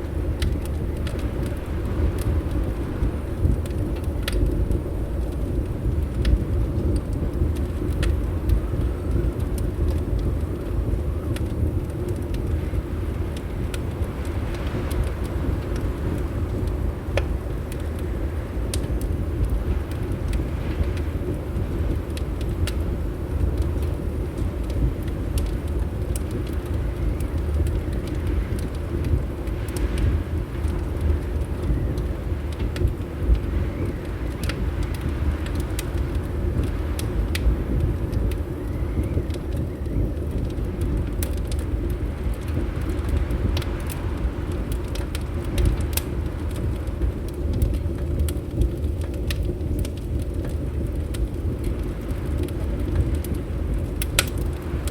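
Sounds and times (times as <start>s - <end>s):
fireplace crackling and popping: 0.0s - 54.9s
low rumble of wind: 0.0s - 54.9s.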